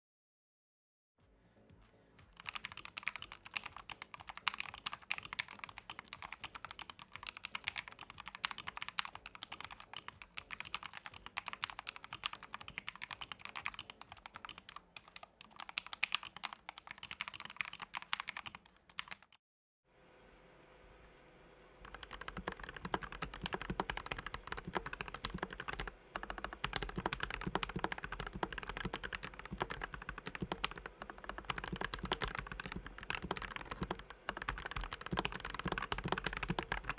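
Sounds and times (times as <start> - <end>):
mechanical keyboard typing: 2.3 - 19.4, 21.8 - 36.9.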